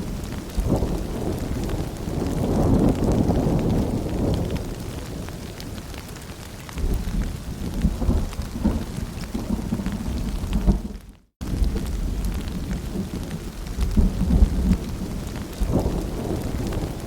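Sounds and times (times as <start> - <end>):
distant thunder rumble: 0.0 - 5.7, 6.8 - 17.0
rain falling: 0.0 - 17.0.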